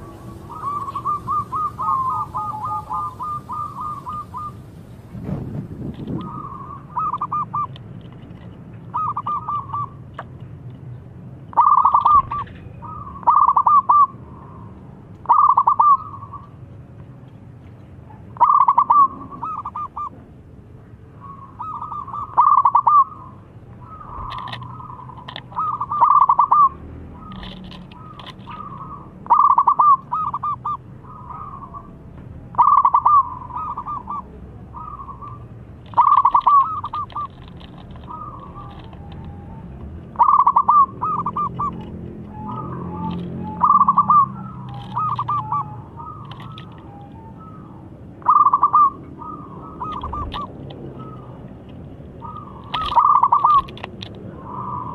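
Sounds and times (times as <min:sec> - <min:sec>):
dove cooing: 0:00.0 - 0:04.7, 0:06.0 - 0:07.8, 0:08.9 - 0:10.0, 0:11.5 - 0:14.6, 0:15.2 - 0:16.5, 0:18.4 - 0:20.2, 0:21.2 - 0:54.9.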